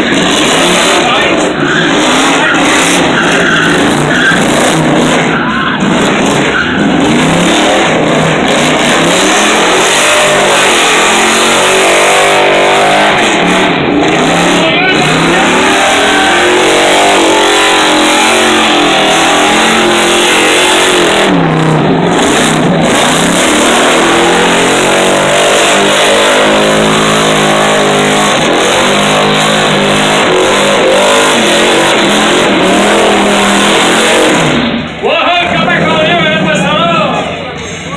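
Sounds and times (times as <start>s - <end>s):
car engine revving: 0.0s - 37.8s.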